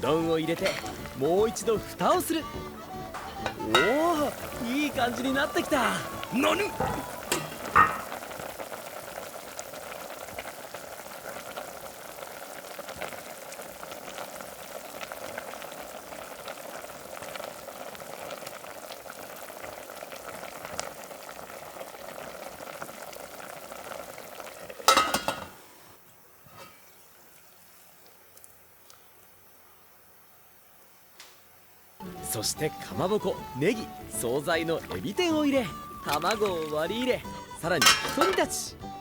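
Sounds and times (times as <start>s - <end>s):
broth boiling in covered pot: 0.0s - 39.0s.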